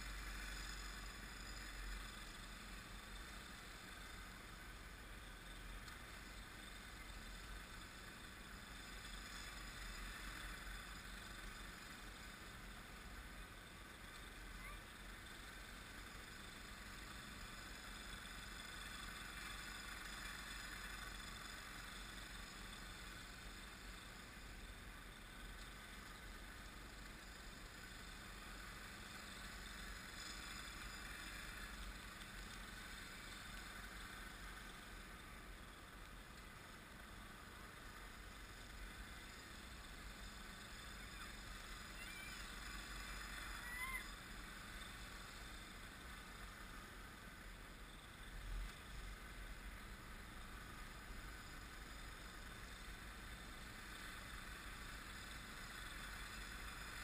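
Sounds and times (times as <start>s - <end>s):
distant engine drone: 0.0s - 57.0s.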